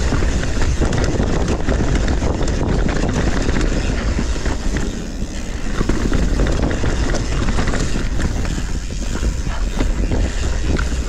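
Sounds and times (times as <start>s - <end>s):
bike tyres knocking and rattling: 0.0s - 11.0s
wind rumble on microphone: 0.0s - 11.0s.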